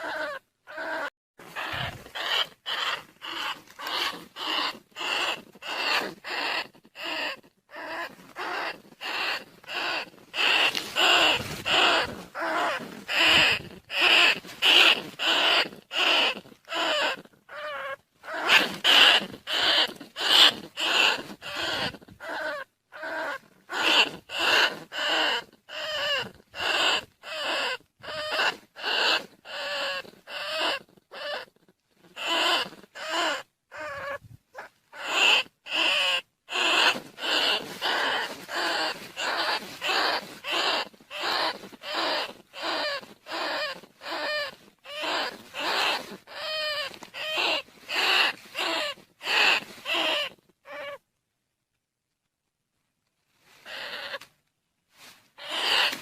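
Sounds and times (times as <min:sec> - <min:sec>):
rats squealing: 0:00.0 - 0:51.0, 0:53.6 - 0:54.3, 0:55.4 - 0:56.0.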